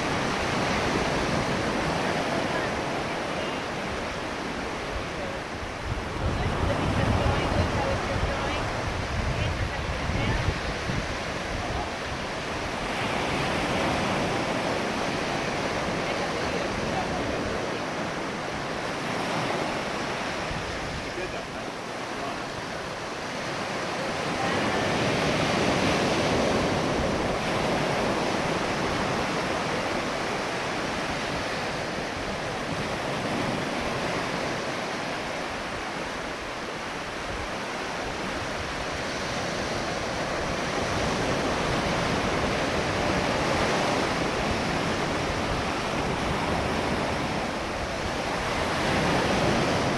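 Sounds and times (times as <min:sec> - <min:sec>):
ocean surf washing onto beach: 0:00.0 - 0:49.9.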